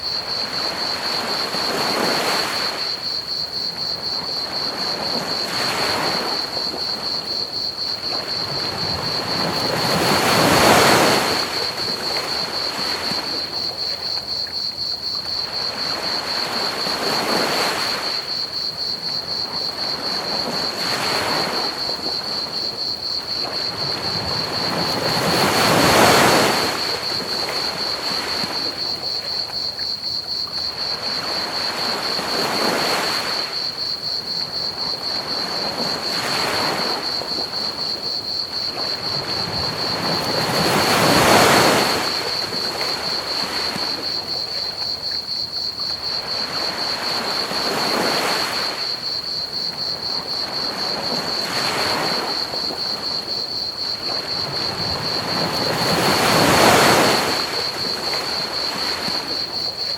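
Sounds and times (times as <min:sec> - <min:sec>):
crickets chirping: 0:00.0 - 0:59.9
ocean waves washing onto beach: 0:00.0 - 0:59.9.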